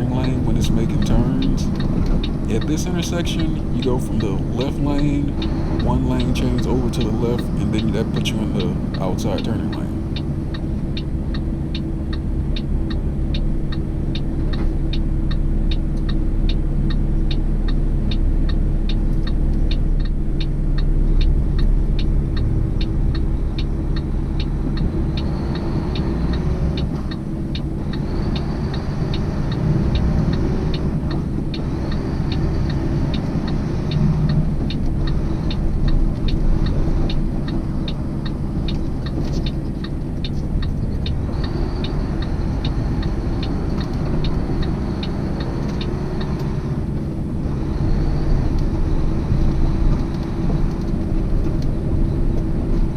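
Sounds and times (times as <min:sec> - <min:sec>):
truck engine and road noise: 0:00.0 - 0:52.9
turn signal ticking: 0:00.0 - 0:52.9.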